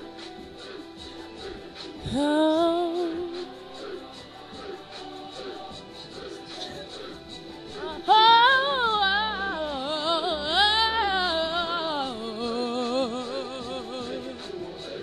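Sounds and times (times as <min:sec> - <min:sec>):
backing music: 0:00.0 - 0:15.0
high singing voice: 0:02.0 - 0:07.0, 0:07.7 - 0:15.0.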